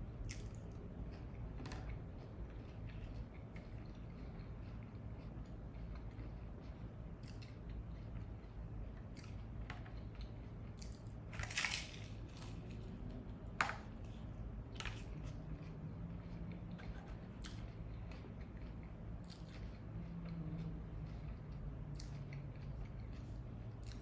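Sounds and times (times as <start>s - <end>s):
crunching and chewing chip: 0.1s - 24.0s.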